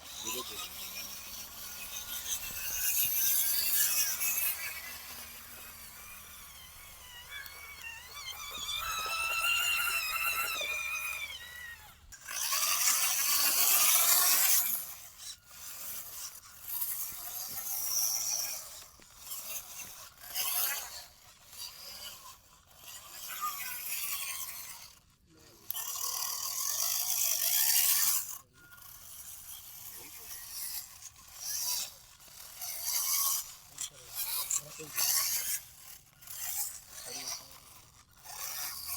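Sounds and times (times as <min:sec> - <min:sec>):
electric motors whining: 0:00.0 - 0:38.9
gear rattle and scraping: 0:00.0 - 0:38.9.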